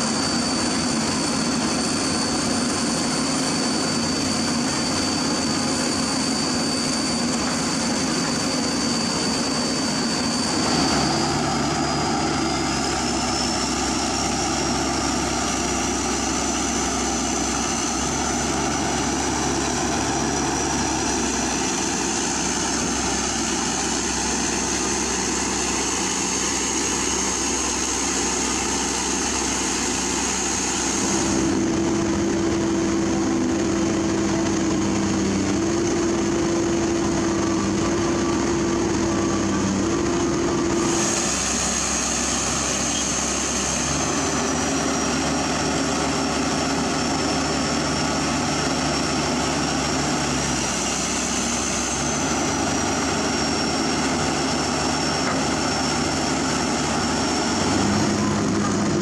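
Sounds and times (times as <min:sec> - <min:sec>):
excavator diesel engine running: 0:00.0 - 0:59.0
high thin whine: 0:00.0 - 0:59.0.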